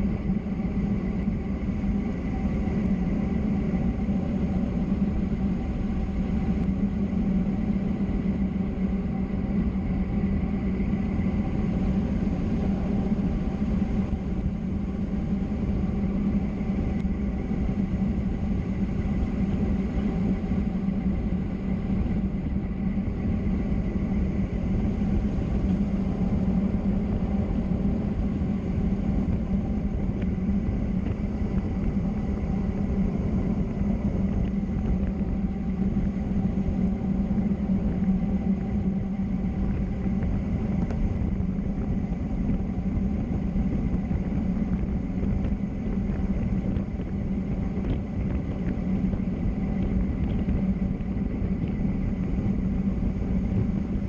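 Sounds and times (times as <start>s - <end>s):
low hum: 0.0s - 54.0s
road and wind noise: 0.0s - 54.0s.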